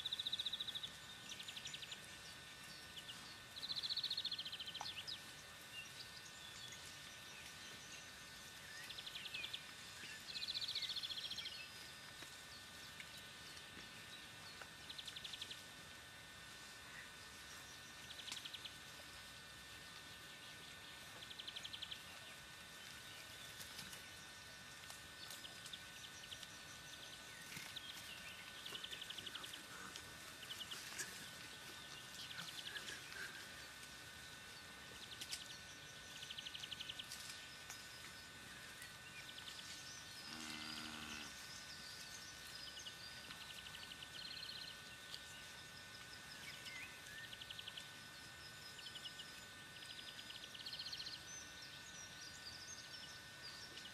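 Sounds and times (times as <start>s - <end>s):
faint high hum: 0.0s - 53.9s.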